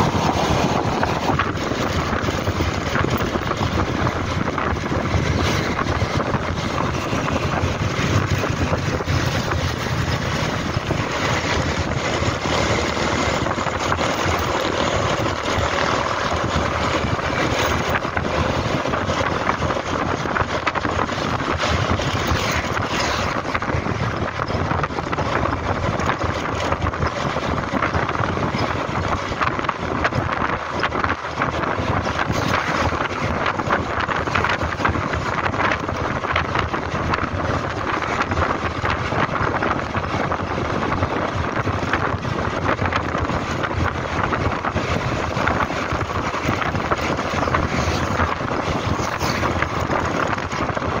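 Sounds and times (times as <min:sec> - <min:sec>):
motor scooter engine and tyres: 0:00.0 - 0:51.0
wind rushing over microphone: 0:00.0 - 0:51.0.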